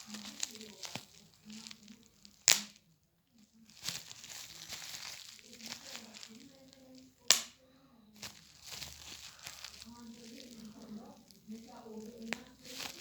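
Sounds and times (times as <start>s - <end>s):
crinkling handling noise: 0.0s - 13.0s.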